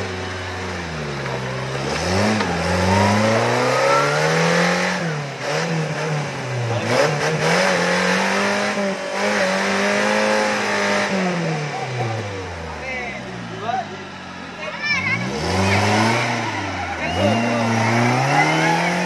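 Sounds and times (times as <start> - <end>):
off-road engine revving hard: 0.0 - 19.0.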